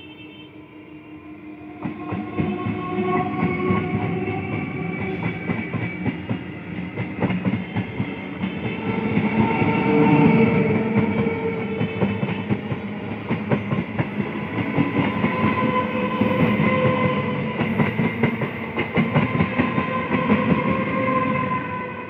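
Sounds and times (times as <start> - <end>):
train whine: 0.0 - 22.0.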